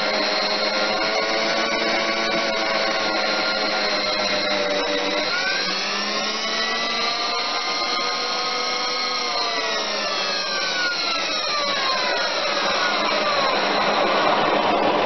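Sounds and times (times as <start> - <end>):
grinder whining on metal: 0.0 - 15.0
lathe running: 0.0 - 15.0.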